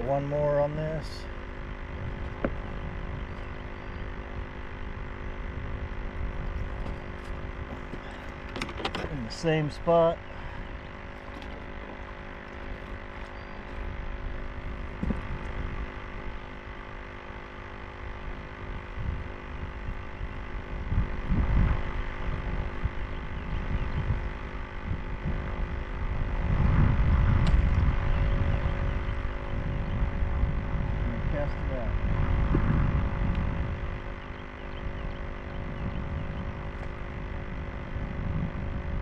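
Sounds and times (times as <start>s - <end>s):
faint steady hum: 0.0s - 39.0s
wind rumbling on microphone: 0.0s - 39.0s.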